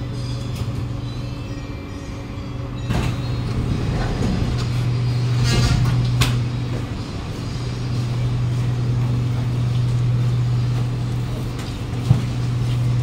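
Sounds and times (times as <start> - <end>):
low hum inside train carriage: 0.0 - 13.0.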